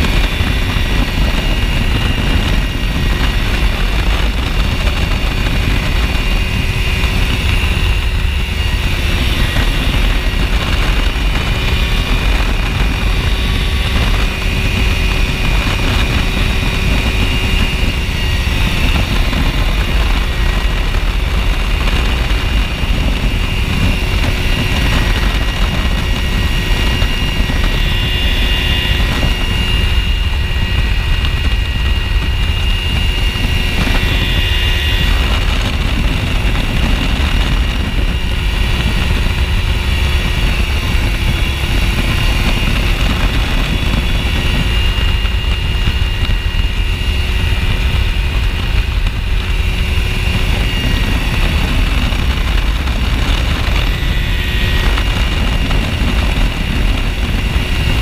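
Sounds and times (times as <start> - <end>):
aircraft engine and propeller: 0.0 - 58.0
faint high whine: 0.0 - 58.0
wind rush on microphone: 0.0 - 58.0.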